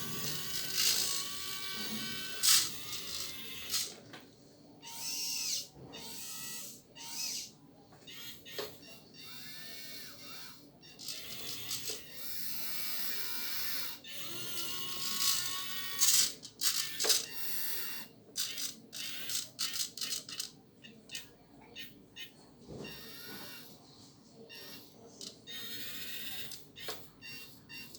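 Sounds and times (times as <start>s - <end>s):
small electric motors whining: 0.0s - 4.0s, 4.8s - 7.5s, 8.1s - 20.5s, 22.8s - 23.7s, 24.5s - 27.9s.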